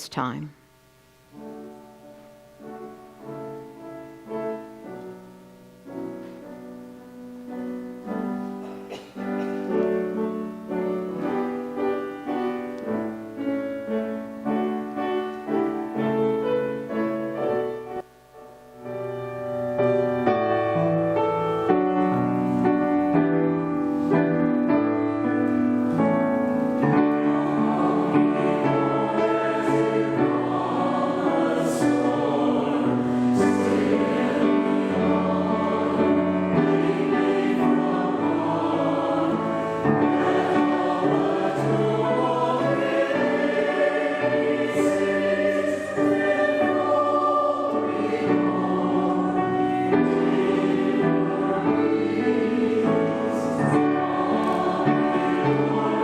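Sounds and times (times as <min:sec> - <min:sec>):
slow piano: 0:01.0 - 0:56.0
congregation singing: 0:01.3 - 0:18.1, 0:18.7 - 0:56.0.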